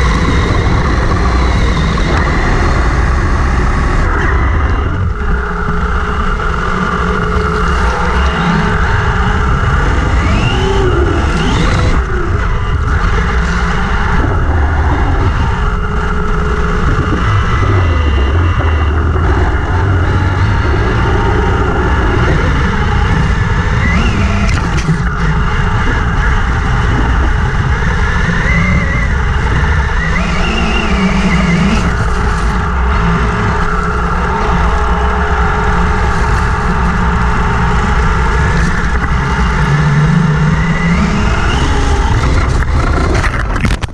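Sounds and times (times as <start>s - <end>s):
electric motor whine: 0.0s - 43.9s
low rumble: 0.0s - 43.9s.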